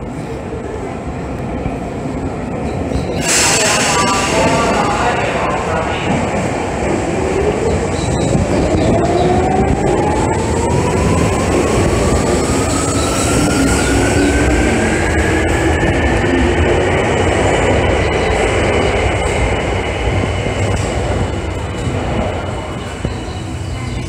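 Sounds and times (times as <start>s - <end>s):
subway train rumble: 0.0s - 24.0s.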